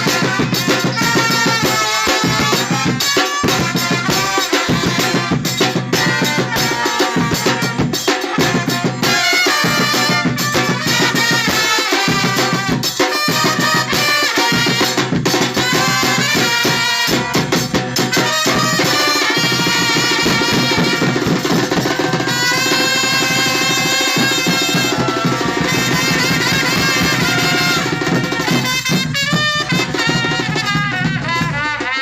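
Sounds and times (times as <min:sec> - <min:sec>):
sharp drum hits: 0:00.0 - 0:31.6
salsa band music: 0:00.0 - 0:32.0.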